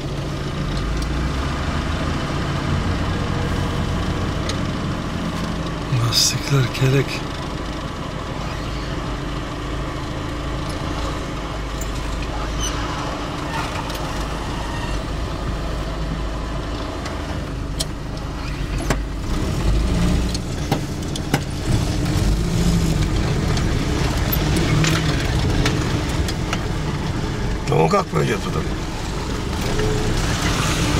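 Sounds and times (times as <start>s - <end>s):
engine and road rumble: 0.0s - 30.9s.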